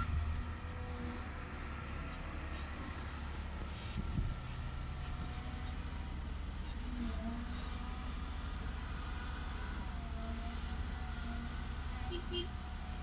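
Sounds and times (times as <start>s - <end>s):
diesel engines rumbling: 0.0s - 13.0s.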